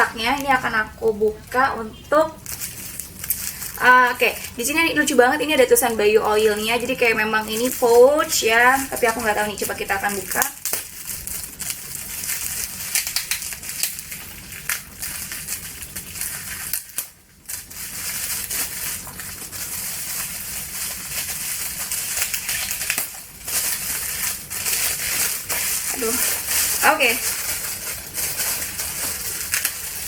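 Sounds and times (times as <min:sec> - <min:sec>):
packaging crinkling and crackling: 0:00.0 - 0:30.0.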